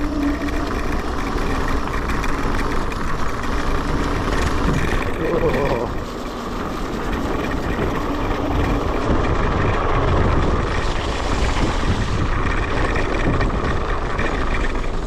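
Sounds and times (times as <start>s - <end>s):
rumble of tyres on rough track: 0.0s - 15.0s
wind noise on microphone: 0.0s - 15.0s.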